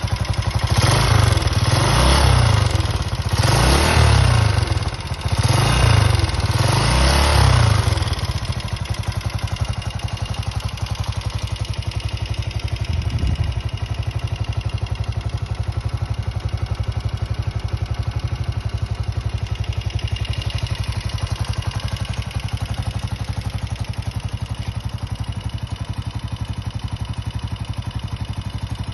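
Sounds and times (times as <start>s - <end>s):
motorcycle engine revving and idling: 0.0s - 28.9s.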